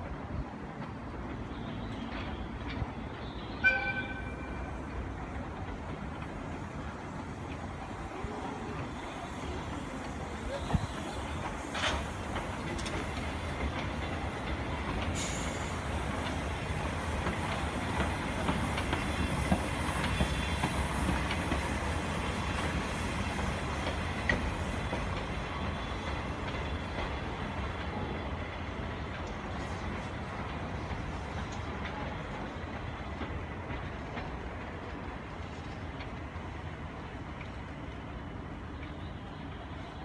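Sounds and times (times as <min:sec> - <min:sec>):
steam locomotive rumbling on rails: 0:00.0 - 0:40.0
sharp rail clicks: 0:00.7 - 0:39.1.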